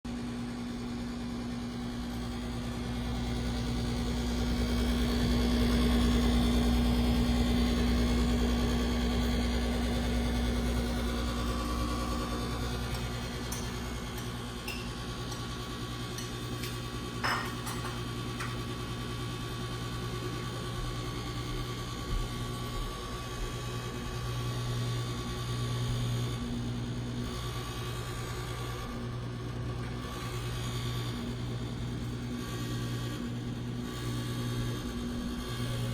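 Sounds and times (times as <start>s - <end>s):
microwave humming and buzzing: 0.0s - 35.9s.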